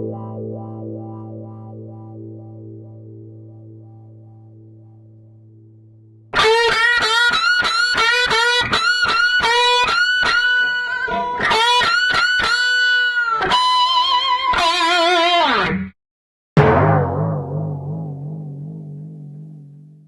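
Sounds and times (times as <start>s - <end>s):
guitar riff: 0.0s - 5.0s, 6.3s - 15.9s, 16.6s - 20.0s.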